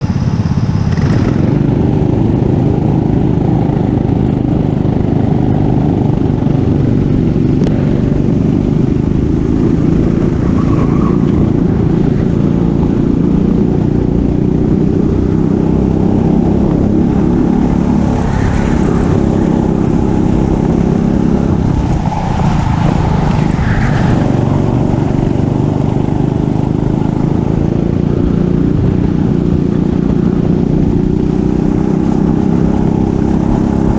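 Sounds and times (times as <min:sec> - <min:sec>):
kart engine running hard: 0:00.0 - 0:33.9.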